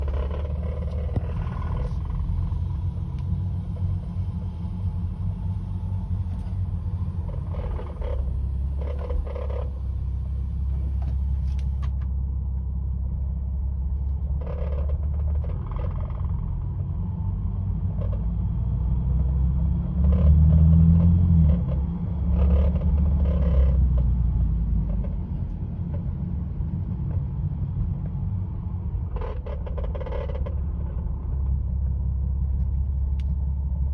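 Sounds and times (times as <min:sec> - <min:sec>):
engine and road rumble: 0:00.0 - 0:33.9
rattling under dashboard: 0:00.0 - 0:33.9.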